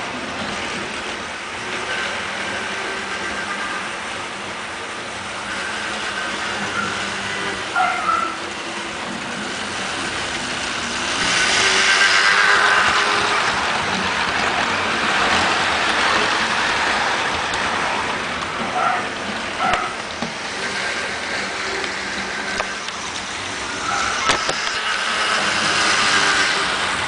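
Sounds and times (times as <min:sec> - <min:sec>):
model train wheels whirring: 0:00.0 - 0:27.0.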